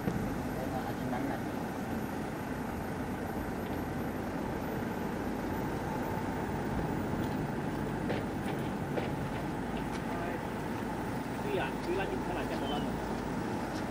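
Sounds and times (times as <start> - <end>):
jet turbine rushing with high whine: 0.0 - 13.9.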